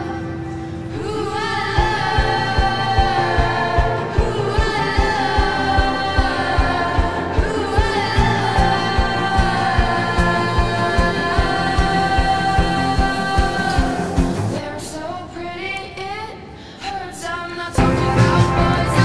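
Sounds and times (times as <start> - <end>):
held chords: 0.0 - 14.6, 17.8 - 19.0
person singing: 0.0 - 19.0.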